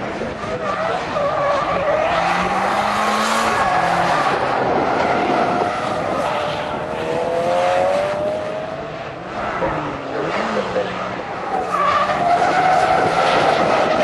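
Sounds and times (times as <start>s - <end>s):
car engines at high revs: 0.0s - 14.0s.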